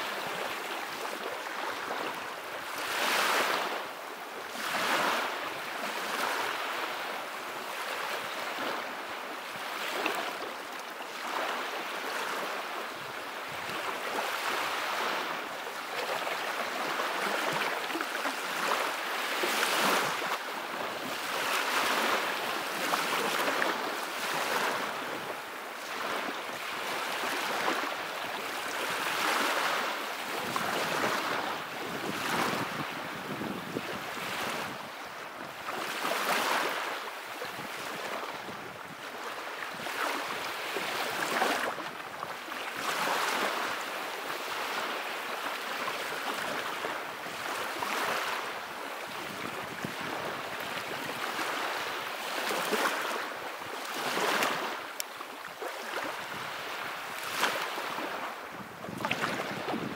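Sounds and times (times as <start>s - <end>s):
small waves breaking on shore: 0.0s - 59.9s.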